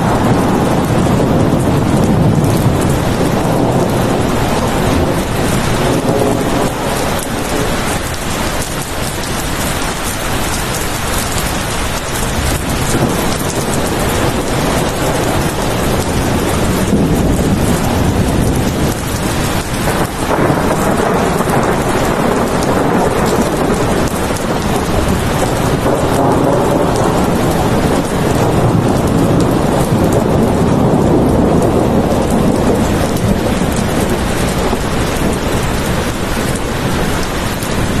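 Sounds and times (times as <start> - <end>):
heavy rain pattering: 0.0 - 38.0
thunder rumbling: 0.0 - 38.0.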